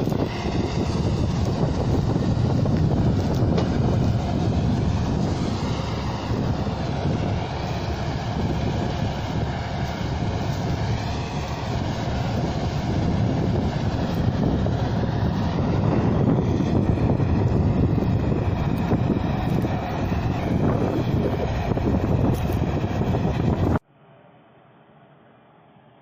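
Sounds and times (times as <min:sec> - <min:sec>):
combine harvester rumbling: 0:00.0 - 0:25.8.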